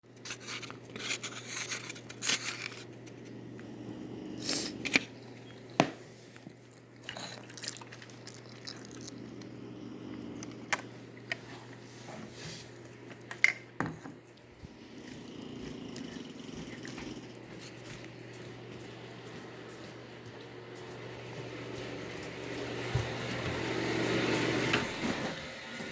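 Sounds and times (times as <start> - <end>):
chewing noodles: 0.1 - 11.9, 14.3 - 25.4.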